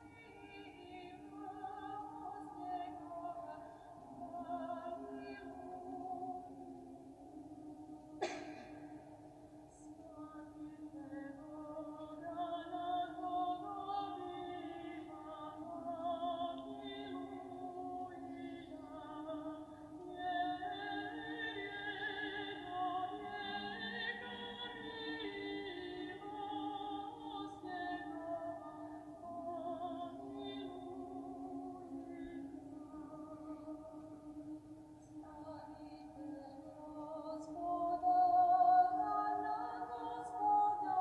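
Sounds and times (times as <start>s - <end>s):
choir singing: 0.0s - 41.0s.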